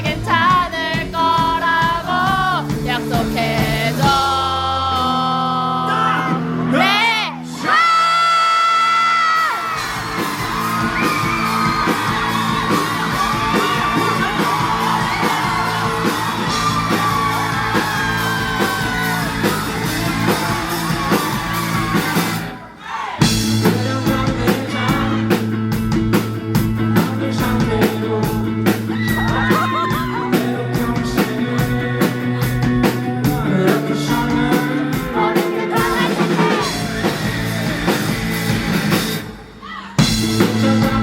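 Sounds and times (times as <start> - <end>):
lead singer: 0.0 - 41.0
live rock band: 0.0 - 41.0.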